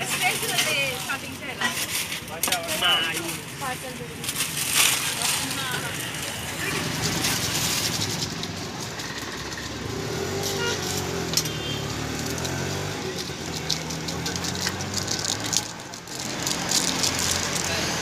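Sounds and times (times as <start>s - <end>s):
traffic engine hum: 0.0s - 18.0s.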